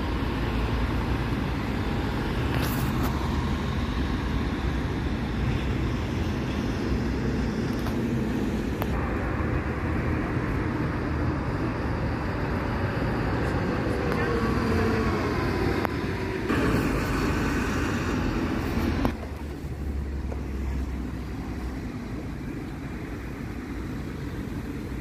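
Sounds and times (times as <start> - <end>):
bus engine passing: 0.0 - 25.0
road traffic rumble: 0.0 - 25.0.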